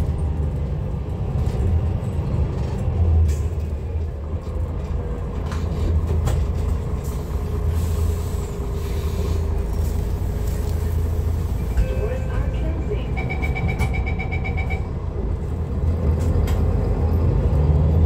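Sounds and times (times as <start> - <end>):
diesel bus engine drone: 0.0 - 18.0.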